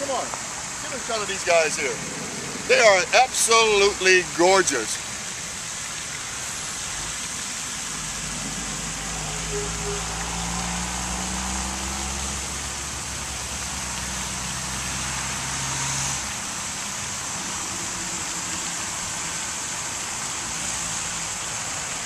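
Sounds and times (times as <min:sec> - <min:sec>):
fountain spray splashing: 0:00.0 - 0:22.0.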